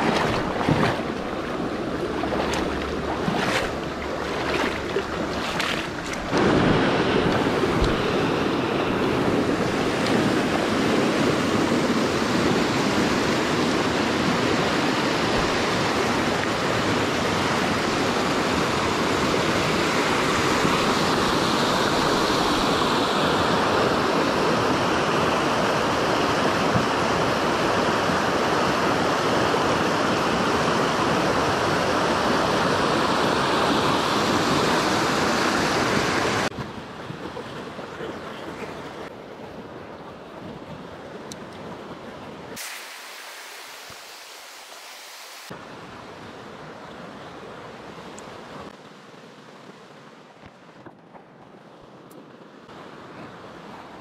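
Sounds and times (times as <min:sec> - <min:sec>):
stream water rushing: 0:00.0 - 0:50.9, 0:51.5 - 0:54.0.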